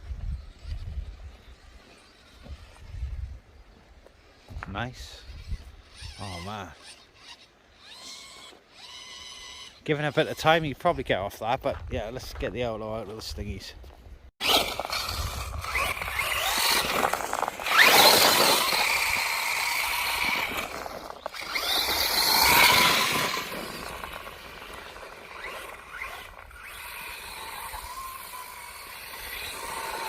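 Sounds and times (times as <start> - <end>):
rc truck motor whining: 0.1 - 10.6, 14.4 - 30.0.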